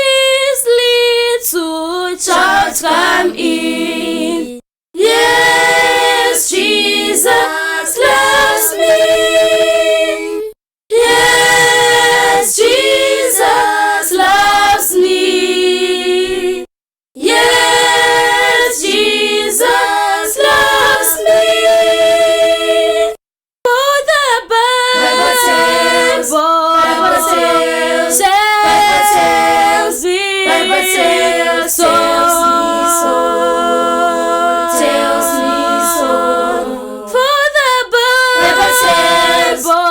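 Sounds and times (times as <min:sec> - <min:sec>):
a cappella group singing in harmony: 0:00.0 - 0:39.9.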